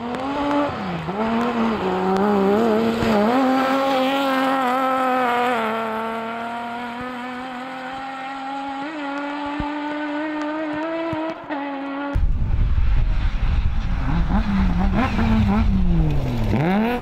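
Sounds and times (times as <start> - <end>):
rally car engine pulling hard: 0.0 - 17.0.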